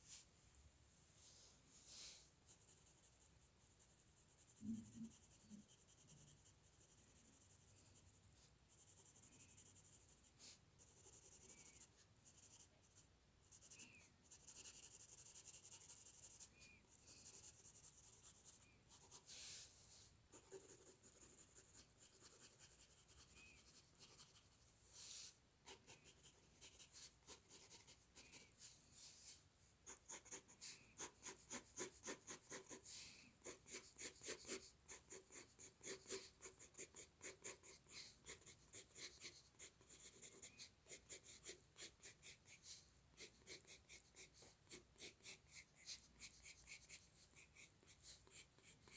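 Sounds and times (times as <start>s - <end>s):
drawing tool scratching on paper: 2.5s - 19.7s, 20.3s - 24.6s, 25.7s - 28.7s, 29.9s - 48.9s.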